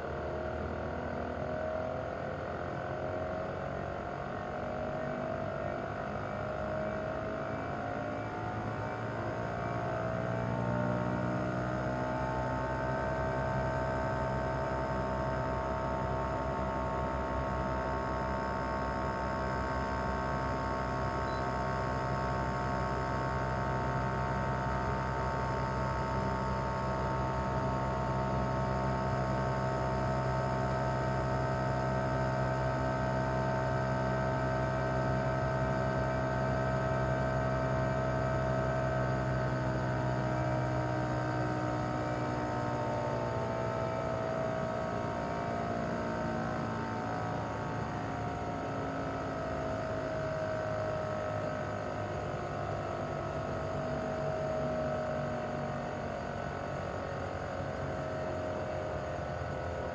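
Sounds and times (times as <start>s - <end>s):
inverter whine: 0.0s - 59.9s.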